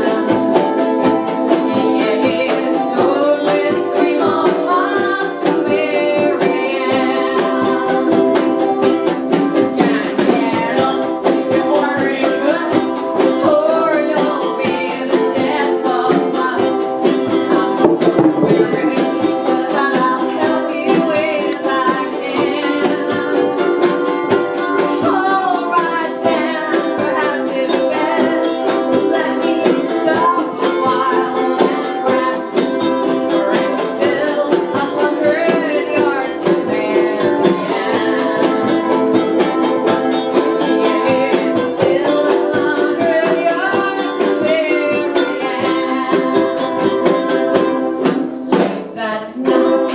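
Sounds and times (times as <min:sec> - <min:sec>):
strummed string instruments: 0:00.0 - 0:49.9
voices singing along: 0:01.5 - 0:08.8, 0:09.8 - 0:23.6, 0:25.0 - 0:49.9.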